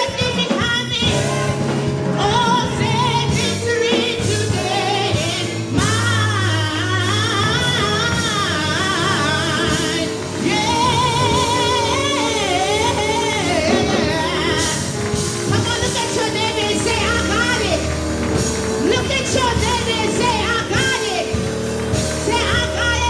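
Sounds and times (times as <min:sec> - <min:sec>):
gospel singers with vibrato: 0:00.0 - 0:23.0
instrumental backing: 0:00.0 - 0:23.0.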